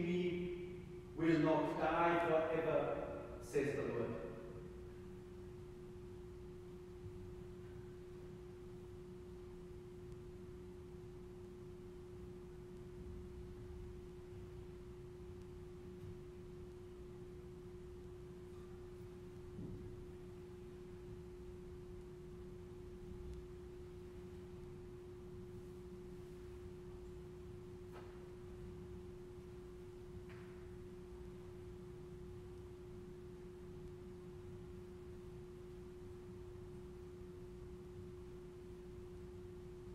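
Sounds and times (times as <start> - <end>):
low room rumble: 0.0 - 39.9
steady pure tone: 0.0 - 39.9.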